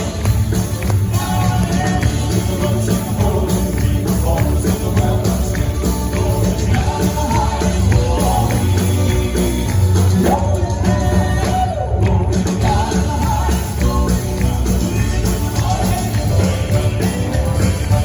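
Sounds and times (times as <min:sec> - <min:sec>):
band backing with bass: 0:00.0 - 0:18.0
vocal quartet singing gospel: 0:00.0 - 0:18.0.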